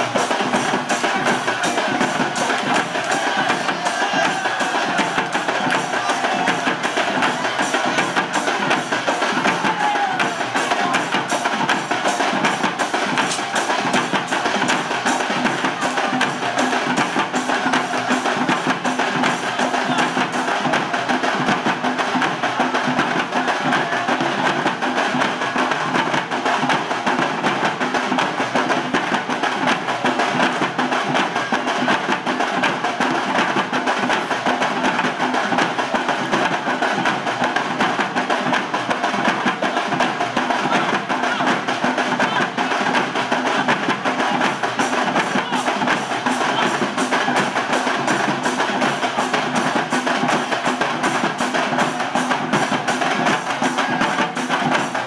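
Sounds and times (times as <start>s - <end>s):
fast ceremonial drumming: 0.0s - 55.0s.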